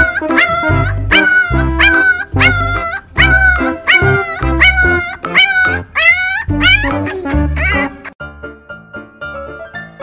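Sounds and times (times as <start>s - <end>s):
puppy barking: 0.0s - 8.1s.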